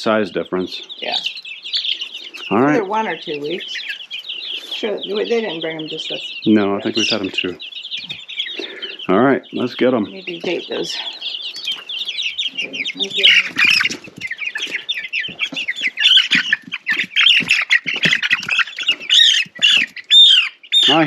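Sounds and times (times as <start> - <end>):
young chickens peeping in alarm: 0.0 - 21.0.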